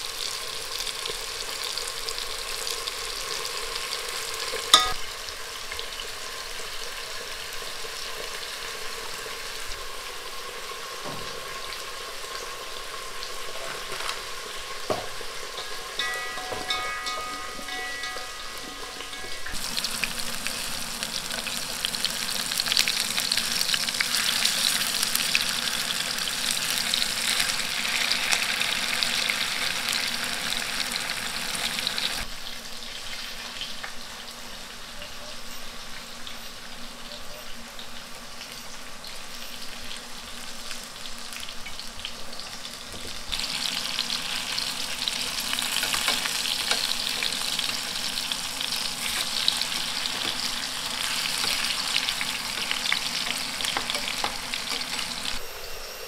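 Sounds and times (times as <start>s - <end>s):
tofu sizzling in hot oil: 0.0s - 55.4s.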